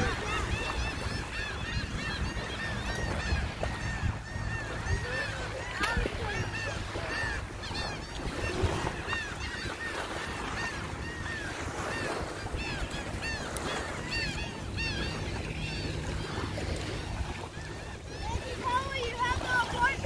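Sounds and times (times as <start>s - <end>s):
birds calling: 0.0s - 20.0s
surf: 0.0s - 20.0s
wind: 0.0s - 20.0s.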